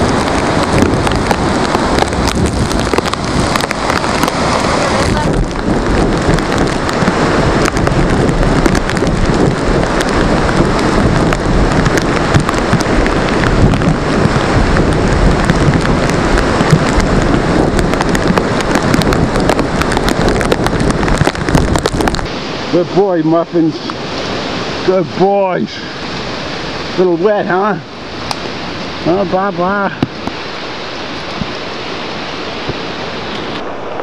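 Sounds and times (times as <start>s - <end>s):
patter of rain drops: 0.0s - 34.0s
rain and wind against glass: 0.0s - 34.0s.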